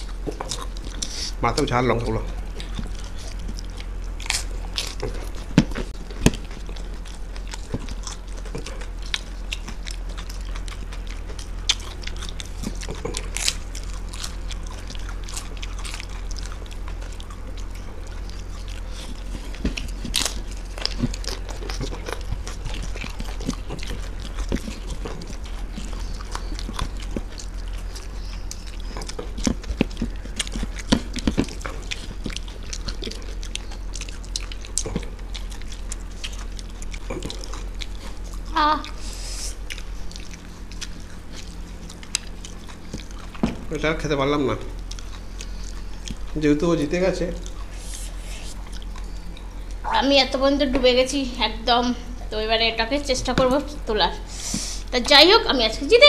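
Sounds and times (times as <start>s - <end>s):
people chewing crunchy food: 0.0s - 56.0s
steady low hum: 0.0s - 56.0s.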